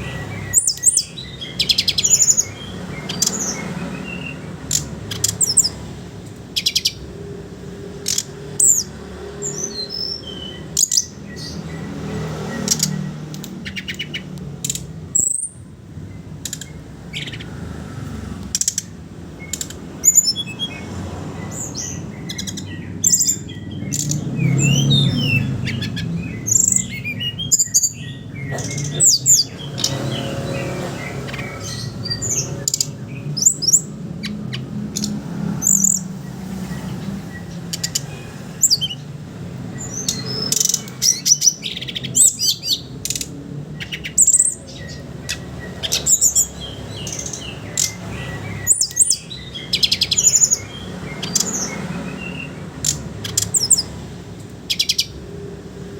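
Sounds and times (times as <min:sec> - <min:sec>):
flycatcher twittering song: 0:00.0 - 0:55.9.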